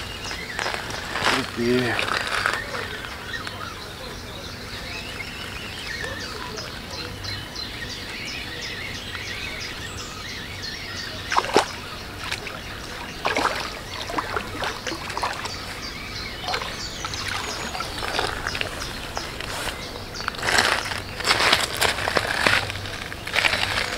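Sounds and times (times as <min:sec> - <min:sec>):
bird chirping: 0:00.0 - 0:23.9.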